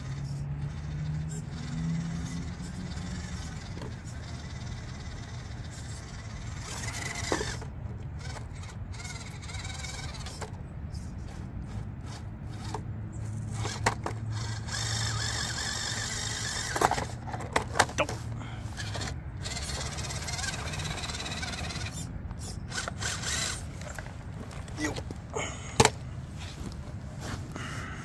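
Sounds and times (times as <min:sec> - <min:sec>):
toy motor and gearbox whining: 0:00.0 - 0:26.0
tyres scraping on rocks: 0:00.0 - 0:28.0.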